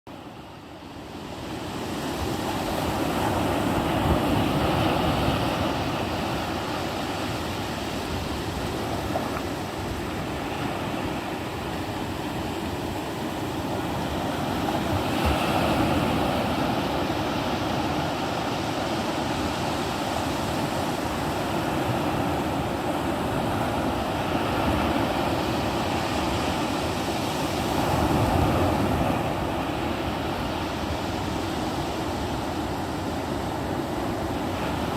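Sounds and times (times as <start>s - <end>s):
ocean surf breaking on shore: 0.1s - 34.9s.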